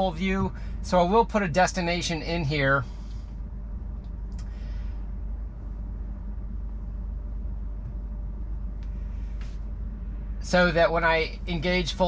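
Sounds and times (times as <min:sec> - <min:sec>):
low hum of car cabin: 0:00.0 - 0:12.0.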